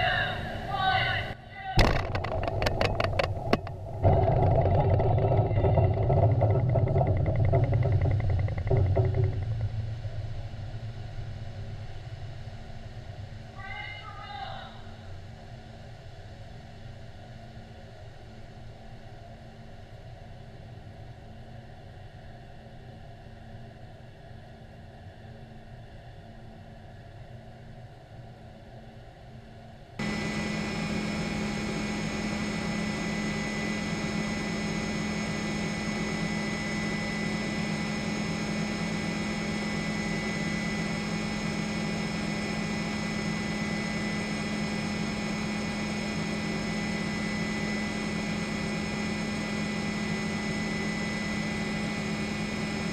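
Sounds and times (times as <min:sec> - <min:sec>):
aircraft engine drone from inside: 0:00.0 - 0:52.9.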